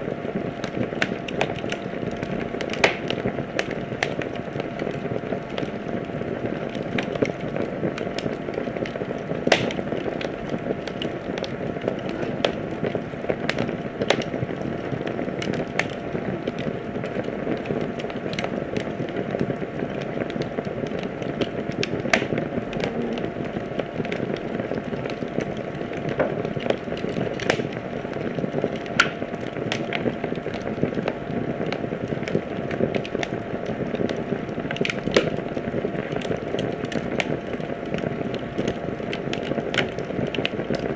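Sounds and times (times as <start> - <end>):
fire crackling and popping: 0.0 - 40.9
low rush of flame: 0.0 - 40.9.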